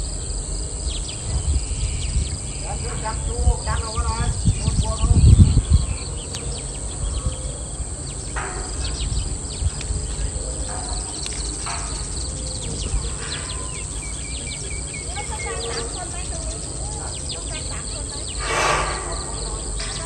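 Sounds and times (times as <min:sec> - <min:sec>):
wind noise on microphone: 0:00.0 - 0:20.0
birds chirping: 0:00.1 - 0:20.0.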